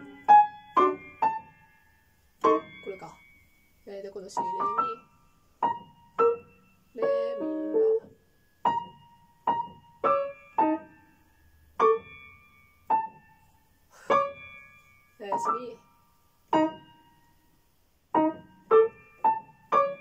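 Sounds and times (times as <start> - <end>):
grand piano played slowly: 0.0 - 20.0.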